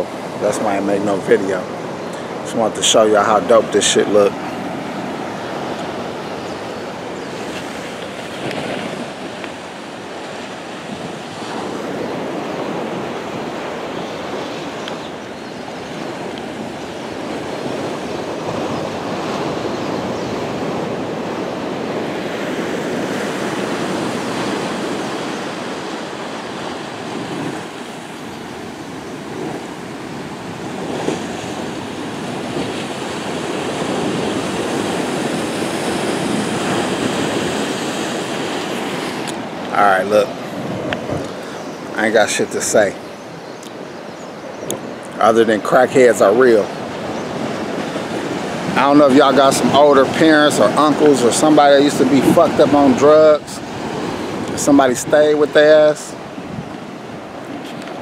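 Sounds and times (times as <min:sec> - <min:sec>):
wind buffeting microphone: 0:00.0 - 0:45.2, 0:46.0 - 0:58.0
ocean surf washing in: 0:00.0 - 0:58.0.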